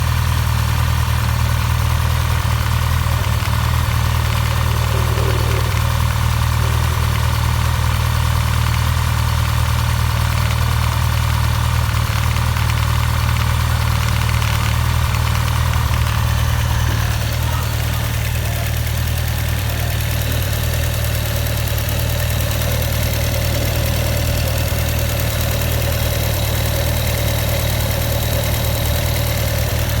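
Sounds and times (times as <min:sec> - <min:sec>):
abnormal engine noise: 0:00.0 - 0:30.0
motorcycle engine idling: 0:00.0 - 0:30.0.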